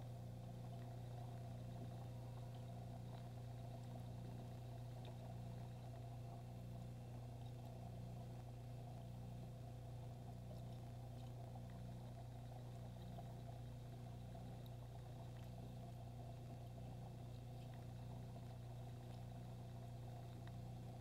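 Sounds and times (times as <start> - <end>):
aquarium pump electric hum: 0.0 - 21.0
faint ticks: 0.0 - 21.0.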